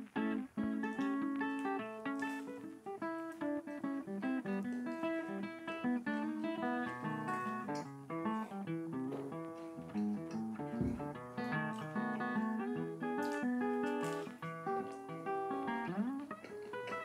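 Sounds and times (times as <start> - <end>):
acoustic guitar plucking: 0.0 - 17.0.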